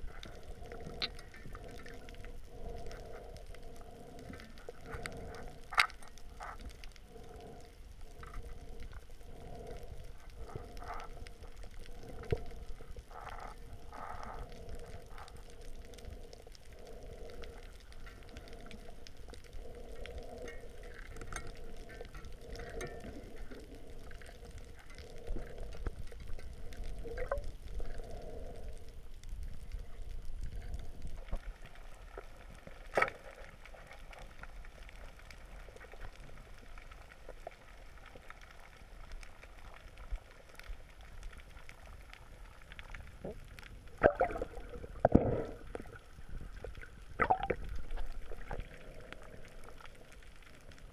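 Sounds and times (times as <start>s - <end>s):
underwater water movement and bubbling: 0.0s - 50.9s.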